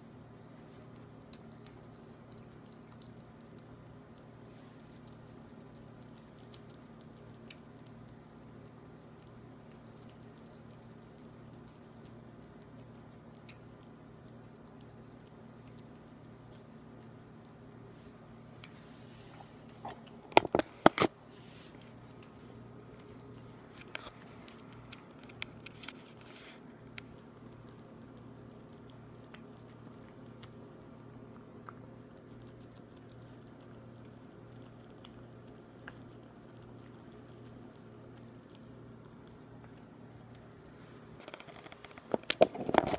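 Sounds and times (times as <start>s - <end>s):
cat chewing wet food: 0.0s - 42.9s.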